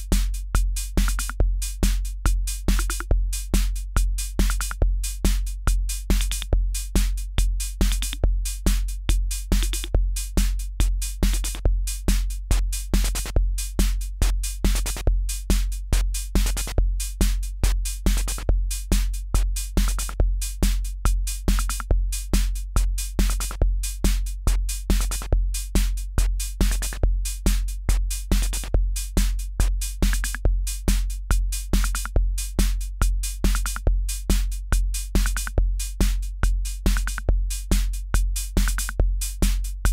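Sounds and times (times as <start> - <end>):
drum machine kick: 0.0 - 39.9
hi-hat ticks: 2.7 - 39.9.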